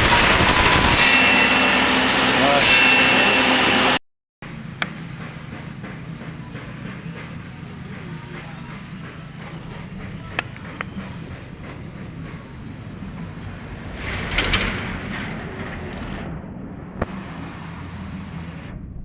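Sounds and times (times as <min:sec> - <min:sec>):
traffic engine hum: 0:01.7 - 0:19.0.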